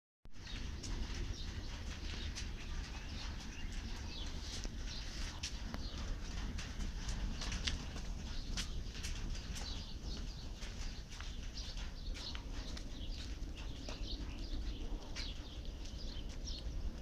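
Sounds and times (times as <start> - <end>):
birds chirping: 0.4 - 17.0
low wind rumble on microphone: 0.4 - 17.0
raindrops ticking: 0.4 - 17.0.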